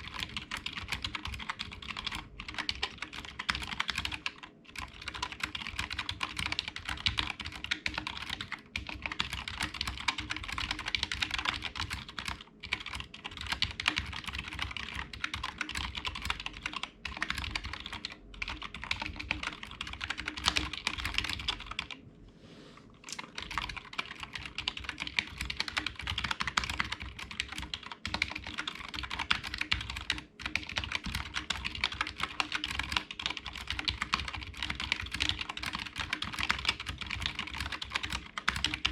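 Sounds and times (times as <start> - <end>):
fast keyboard typing: 0.0 - 22.0, 23.0 - 38.9.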